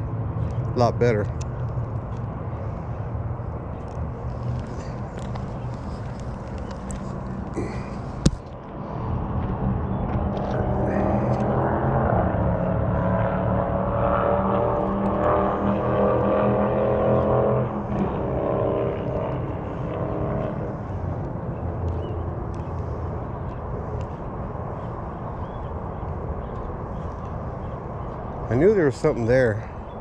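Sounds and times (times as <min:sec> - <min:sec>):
passing vehicle engine droning: 0:00.0 - 0:30.0.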